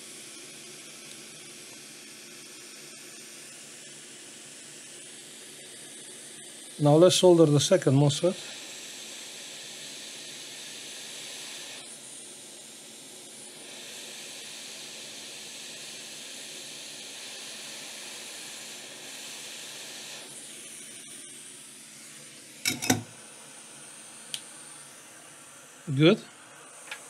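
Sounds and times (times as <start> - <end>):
hot air station hiss: 0.0 - 27.0.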